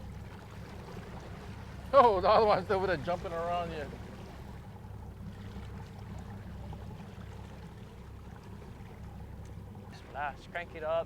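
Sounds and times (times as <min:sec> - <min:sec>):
boat engine rumbling: 0:00.0 - 0:11.0
water washing against hull: 0:00.0 - 0:11.0.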